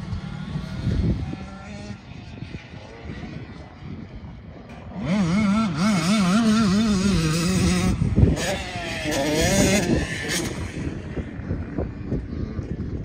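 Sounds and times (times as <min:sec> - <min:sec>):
dirt bike engine revving: 0:00.0 - 0:03.1, 0:04.7 - 0:12.9.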